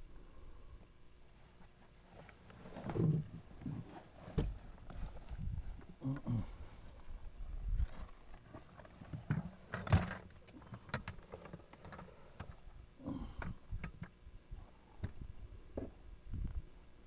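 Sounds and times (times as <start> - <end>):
light clinks: 1.3 - 15.4.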